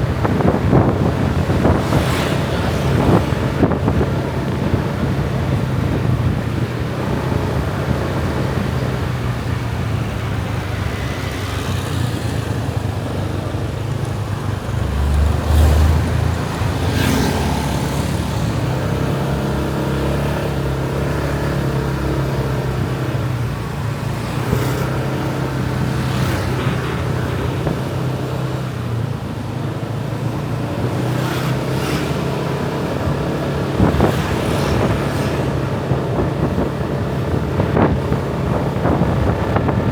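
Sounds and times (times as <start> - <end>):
passing traffic: 0.0 - 39.9
wind on microphone: 0.0 - 39.9.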